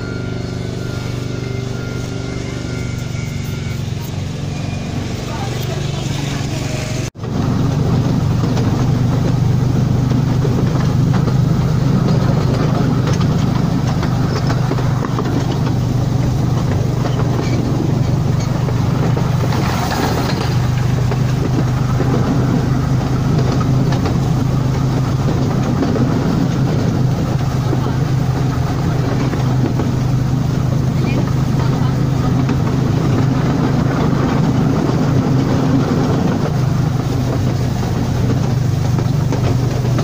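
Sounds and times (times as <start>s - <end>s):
train rumbling along track: 0.0s - 40.0s.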